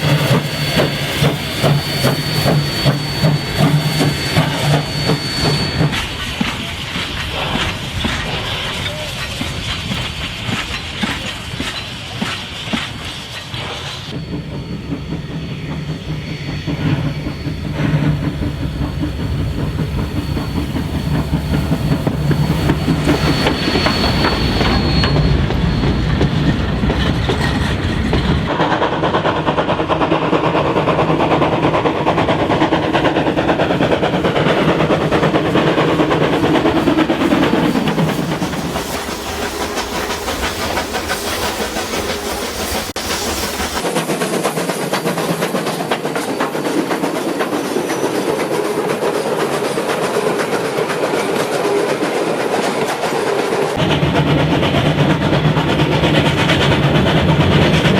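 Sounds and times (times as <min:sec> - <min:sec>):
train wheels clicking over rail joints: 0:00.0 - 0:57.9.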